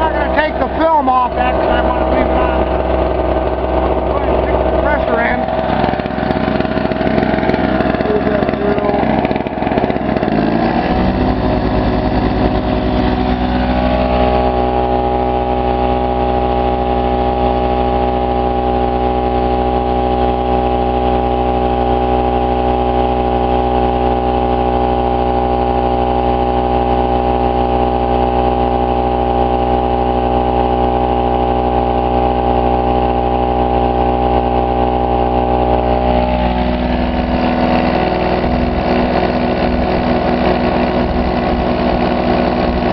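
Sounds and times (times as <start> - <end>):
air compressor running: 0.0 - 42.9
generator engine running: 0.0 - 42.9.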